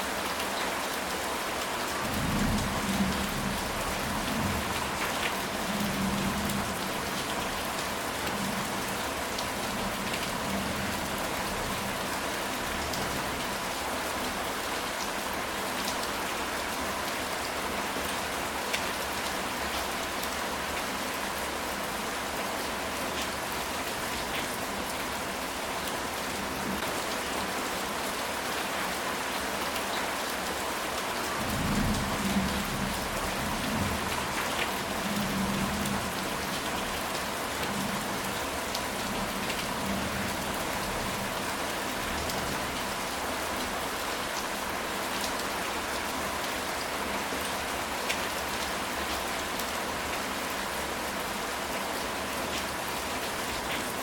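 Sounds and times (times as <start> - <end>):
heavy rain on a tile roof: 0.0 - 54.0.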